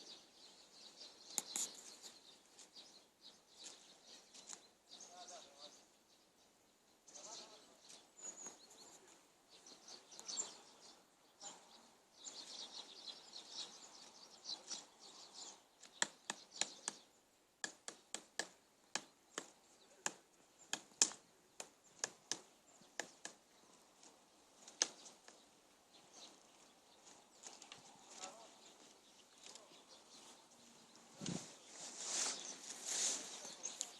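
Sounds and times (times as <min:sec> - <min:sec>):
birds chirping faintly: 0:00.0 - 0:33.9.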